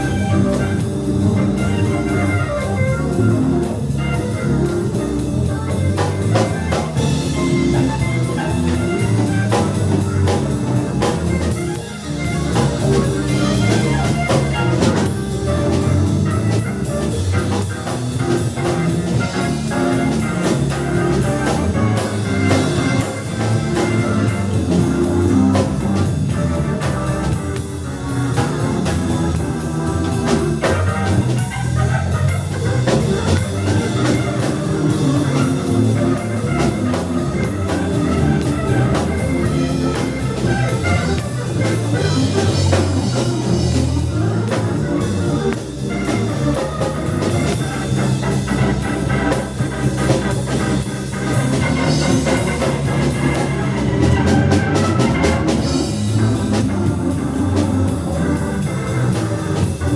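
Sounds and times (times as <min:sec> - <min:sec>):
live band playing instrumental: 0:00.0 - 0:59.9.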